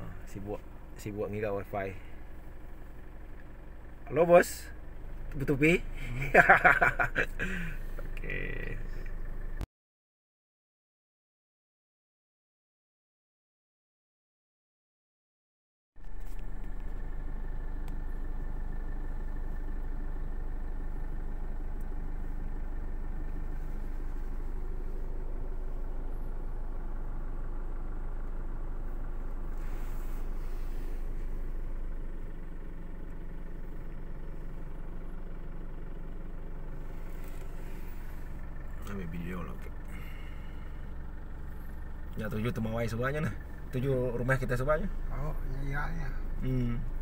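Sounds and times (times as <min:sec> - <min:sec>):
car engine idling: 0:00.0 - 0:09.6, 0:16.0 - 0:47.0.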